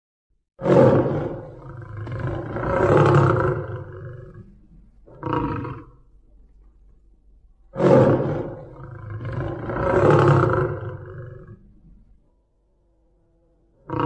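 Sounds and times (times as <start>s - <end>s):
big cat roaring: 0.6s - 6.0s, 7.7s - 14.0s.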